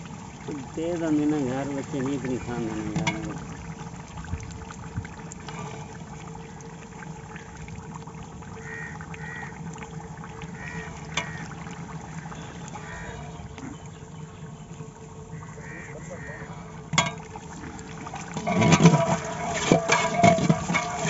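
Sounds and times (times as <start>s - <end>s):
broth bubbling: 0.0s - 21.0s
steady low hum: 0.0s - 21.0s.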